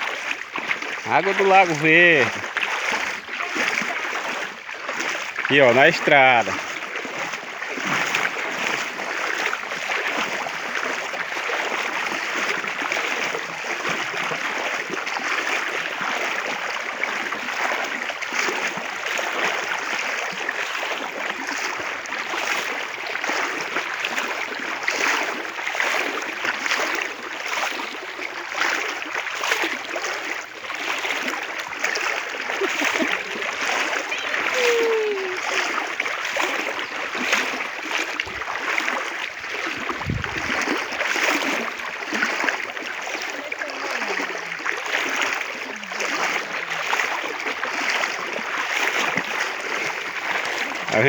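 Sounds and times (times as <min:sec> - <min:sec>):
floodwater rushing over road: 0:00.0 - 0:51.0.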